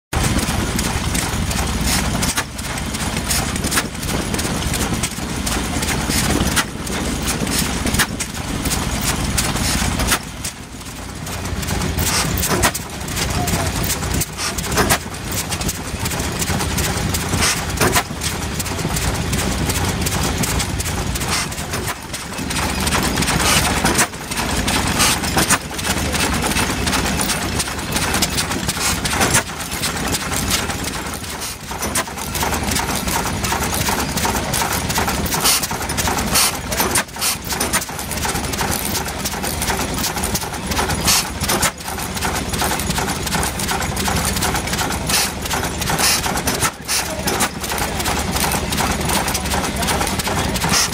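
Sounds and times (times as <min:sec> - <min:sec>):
knocking of engine parts: 0:00.1 - 0:50.9
stationary engine running: 0:00.1 - 0:50.9.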